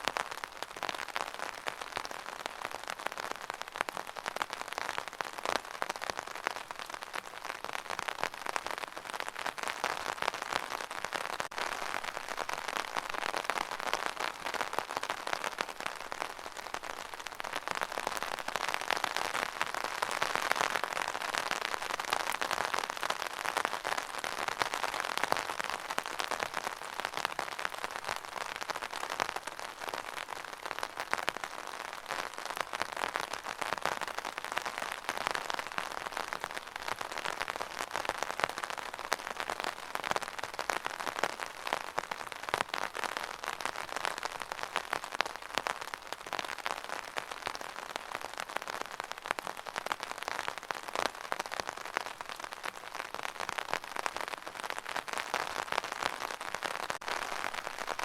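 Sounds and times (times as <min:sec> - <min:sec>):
rain drops ticking on surface: 0:00.0 - 0:58.0.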